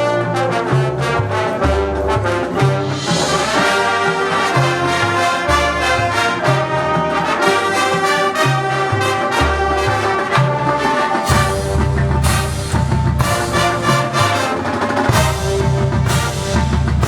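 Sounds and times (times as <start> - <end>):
marching band brass playing: 0.0 - 17.0.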